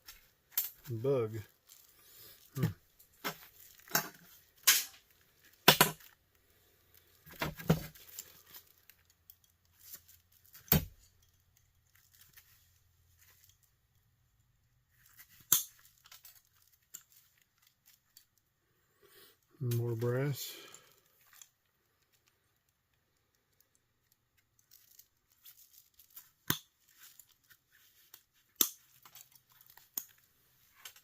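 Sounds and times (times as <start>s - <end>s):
plastic and metal parts clacking: 0.0s - 6.3s, 7.0s - 18.5s, 21.0s - 31.0s.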